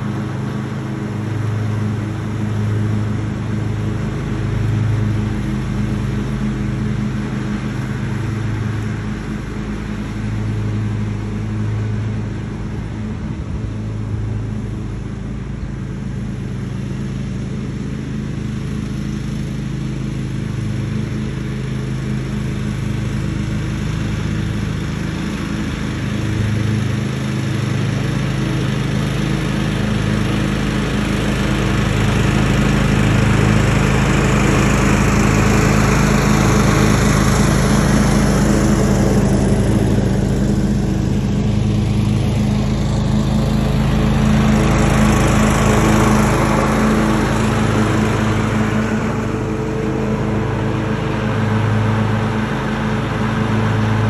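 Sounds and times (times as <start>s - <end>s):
lawn tractor engine mowing: 0.0s - 54.0s.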